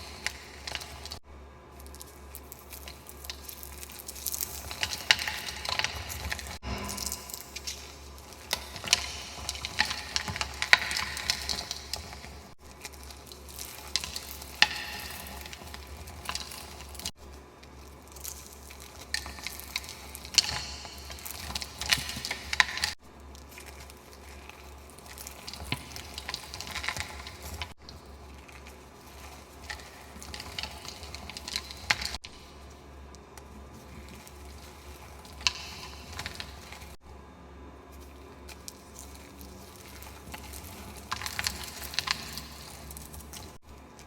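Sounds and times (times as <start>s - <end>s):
chalk crunching and crackling: 0.0s - 37.0s, 37.6s - 44.0s.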